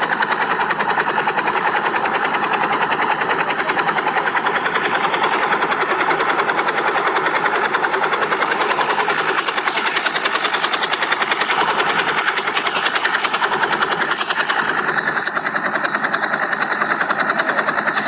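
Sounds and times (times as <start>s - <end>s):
small drone rotor humming: 0.0s - 18.0s.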